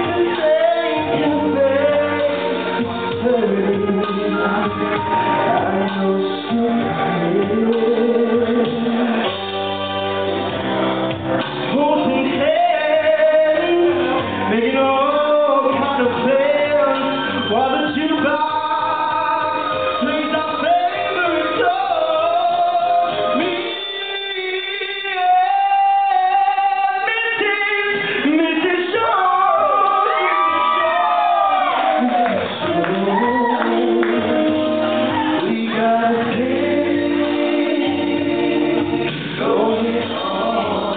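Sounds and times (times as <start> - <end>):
man singing karaoke: 0.0 - 9.6, 11.6 - 40.9
recorded backing track: 0.0 - 40.9.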